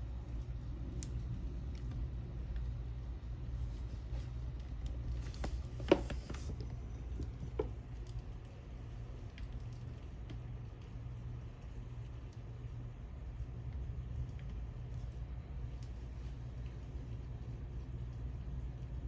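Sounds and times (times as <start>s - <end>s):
storm wind and rain through window: 0.0s - 19.0s.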